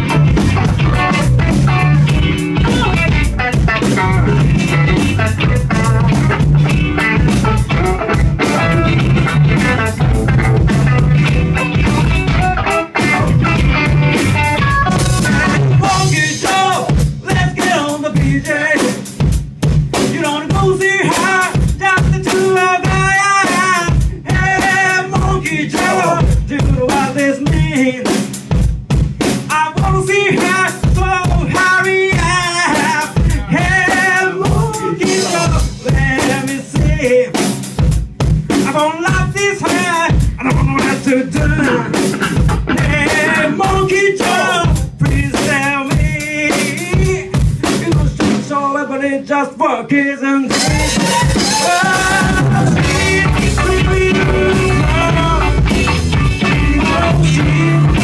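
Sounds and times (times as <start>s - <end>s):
drum kit beat: 0.0s - 48.6s, 50.4s - 58.0s
electric guitars and bass: 0.0s - 48.6s, 50.5s - 58.0s.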